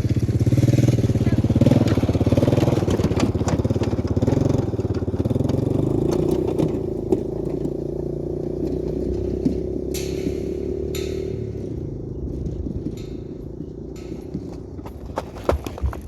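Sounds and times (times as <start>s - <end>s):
engine running: 0.0s - 16.0s
light clicks and clatter: 1.6s - 16.0s.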